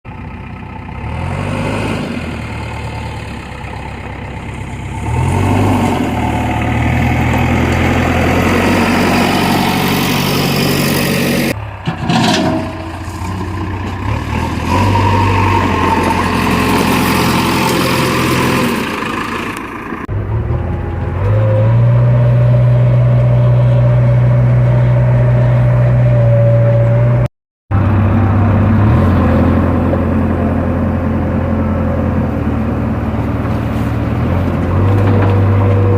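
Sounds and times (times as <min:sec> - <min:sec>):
heavy diesel engine running: 0:00.1 - 0:35.9.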